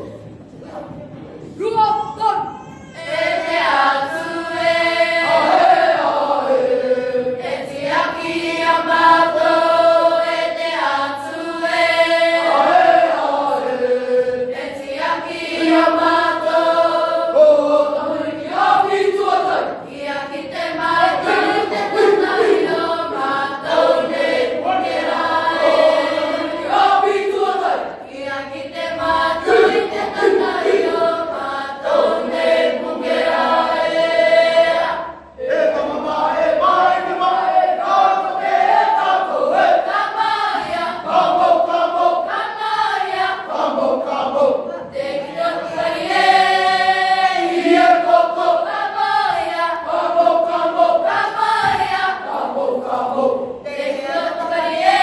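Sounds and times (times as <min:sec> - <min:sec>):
children singing in chorus: 0:02.6 - 0:55.0.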